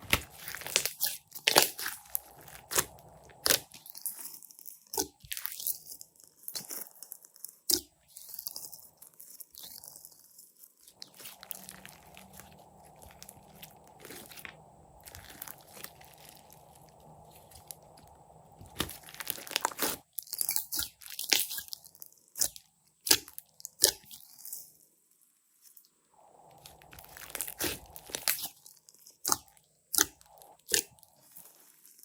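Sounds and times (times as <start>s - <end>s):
slime crackling and popping: 0.0s - 24.4s, 26.6s - 32.0s.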